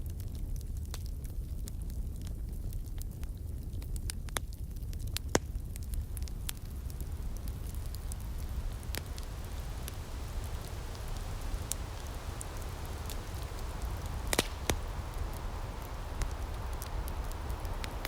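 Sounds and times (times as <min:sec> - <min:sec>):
soft breeze hiss: 0:00.0 - 0:18.0
wood fire crackling: 0:00.0 - 0:18.0
sharp pops from fire: 0:00.2 - 0:18.0.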